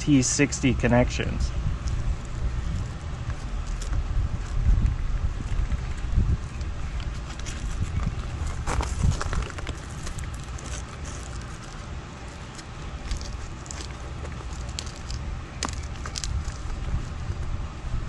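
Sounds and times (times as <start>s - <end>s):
wind rumble on microphone: 1.0s - 11.8s, 12.8s - 18.0s
small crackles and clicks: 1.8s - 16.8s.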